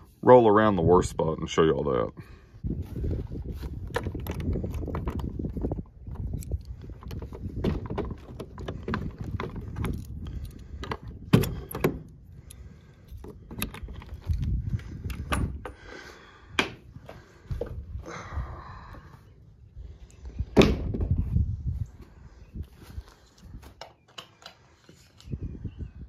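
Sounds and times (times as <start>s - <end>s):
wind rumbling on microphone: 2.2s - 24.0s, 24.7s - 26.0s.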